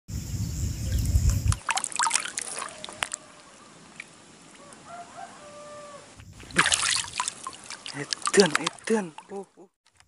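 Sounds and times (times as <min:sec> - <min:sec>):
water splashing and trickling: 0:00.6 - 0:05.0, 0:06.2 - 0:10.0.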